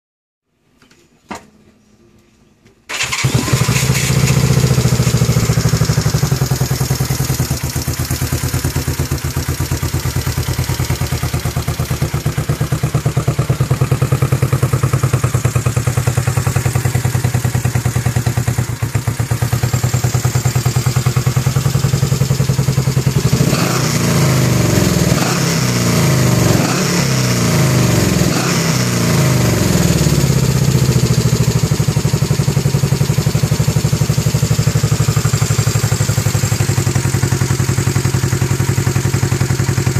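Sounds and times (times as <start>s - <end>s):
motorcycle engine idling: 2.9s - 26.8s, 29.1s - 39.9s.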